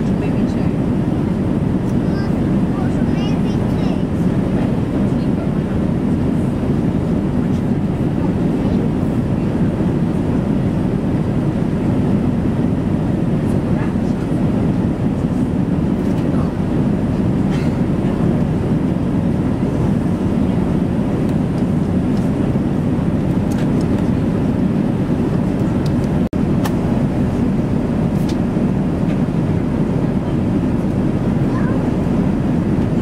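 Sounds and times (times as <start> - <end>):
airliner cabin engine noise: 0.0 - 33.0.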